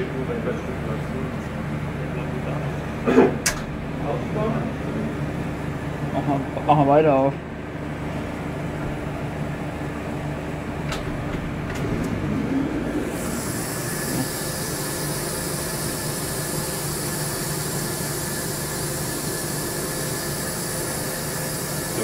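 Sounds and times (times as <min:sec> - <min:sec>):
machining center humming: 0:00.0 - 0:22.0.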